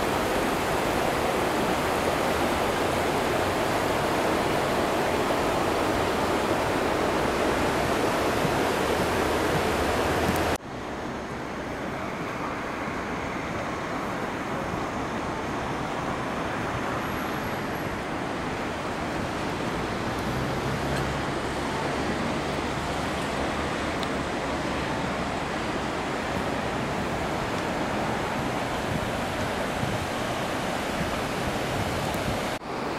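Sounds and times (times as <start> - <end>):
river rushing over rapids: 0.0 - 32.9.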